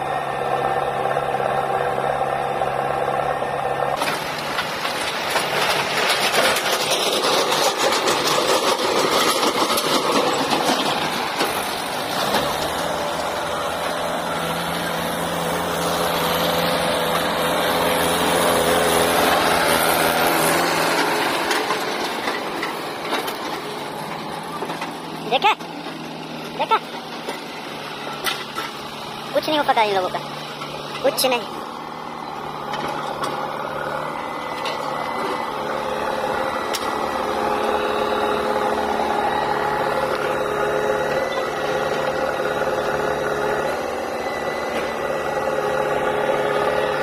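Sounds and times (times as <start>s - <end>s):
diesel engines running under load: 0.0s - 47.0s.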